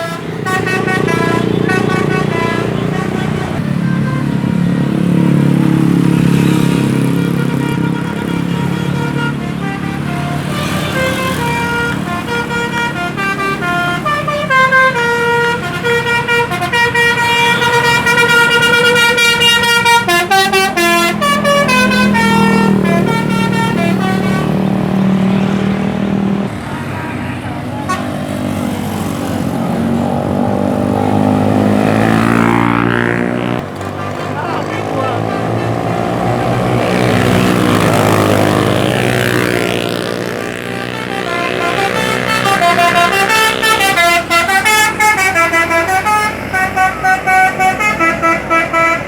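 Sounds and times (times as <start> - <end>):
bus engine rumble: 0.0 - 49.0
bus horn playing a tune: 0.0 - 49.0.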